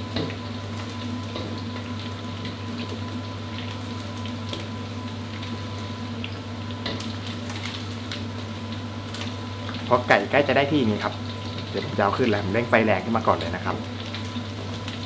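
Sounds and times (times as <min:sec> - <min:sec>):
chicken wings deep-frying in oil: 0:00.0 - 0:15.0.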